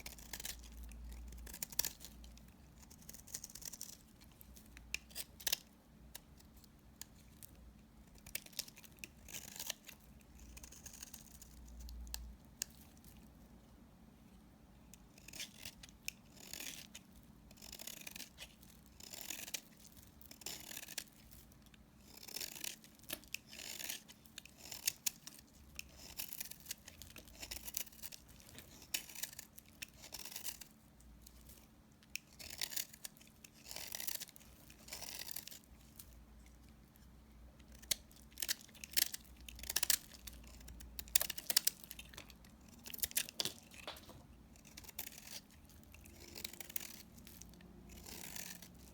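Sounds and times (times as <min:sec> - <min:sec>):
blade scraping soap: 0:00.0 - 0:07.4, 0:08.0 - 0:13.3, 0:14.9 - 0:48.9.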